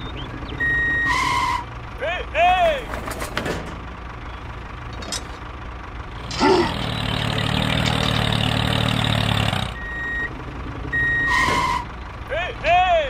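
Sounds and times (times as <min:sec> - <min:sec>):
heavy truck engine rumble: 0:00.0 - 0:13.0.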